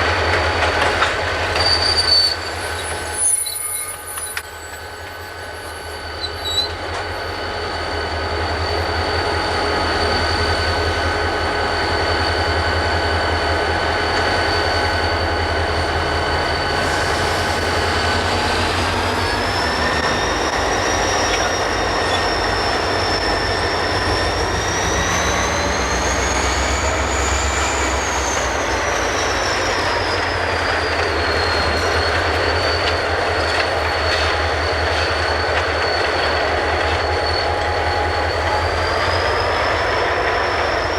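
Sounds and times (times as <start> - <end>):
low train rumble: 0.0 - 40.9
train wheels squealing on rails: 0.0 - 40.9.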